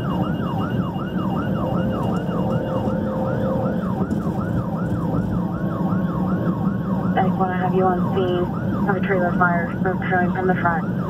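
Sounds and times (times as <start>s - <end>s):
electronic siren yelping: 0.0s - 11.0s
engine and road noise: 0.0s - 11.0s.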